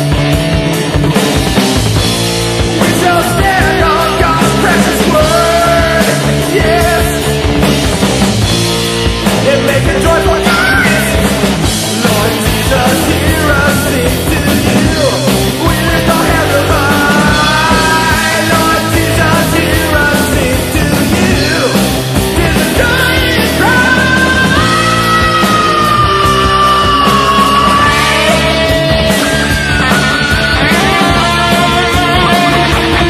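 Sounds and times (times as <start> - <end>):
heavy metal band music: 0.0 - 33.0
person singing or yelling: 2.8 - 7.4, 9.4 - 33.0.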